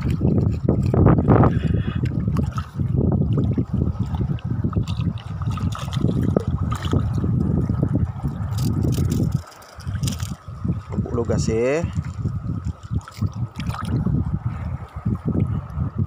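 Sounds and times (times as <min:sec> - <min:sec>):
seawater splashing and lapping: 0:00.0 - 0:15.8.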